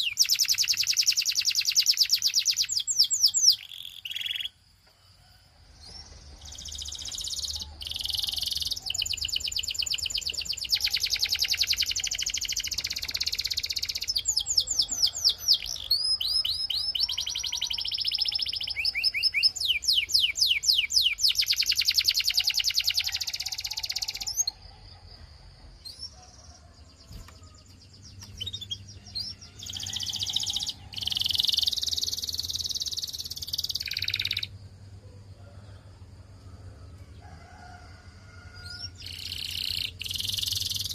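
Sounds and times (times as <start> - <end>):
canary singing trills: 0.0 - 4.6, 5.7 - 34.6, 38.5 - 40.9.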